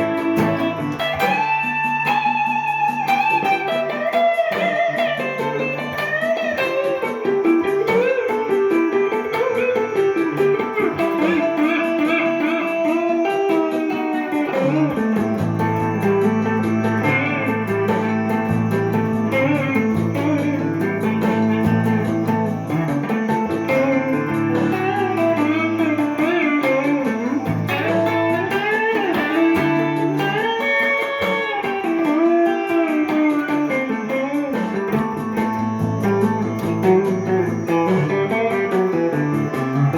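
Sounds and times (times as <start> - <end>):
clean electric guitar melody: 0.0 - 39.9
held low guitar notes: 0.0 - 39.9.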